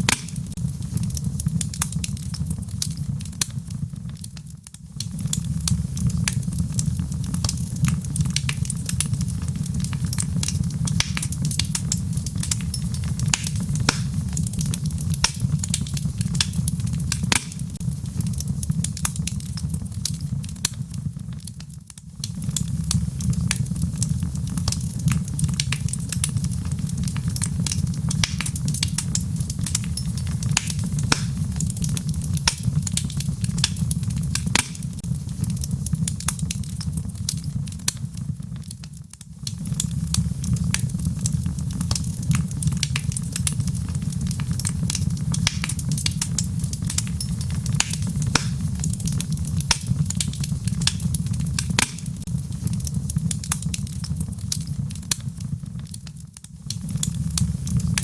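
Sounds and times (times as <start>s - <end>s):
fire crackling and popping: 0.0s - 58.0s
low rumble of fire: 0.0s - 58.0s.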